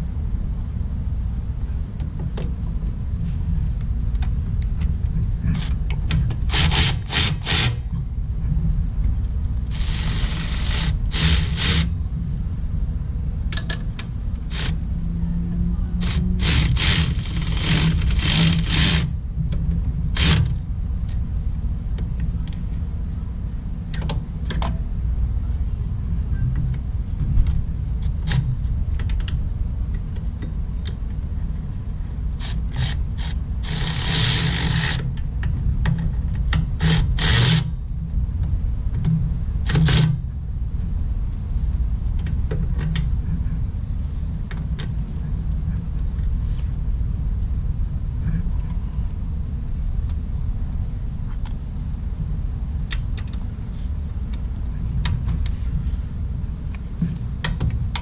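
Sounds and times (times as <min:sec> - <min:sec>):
low rumble: 0:00.0 - 0:34.1, 0:37.7 - 0:58.0.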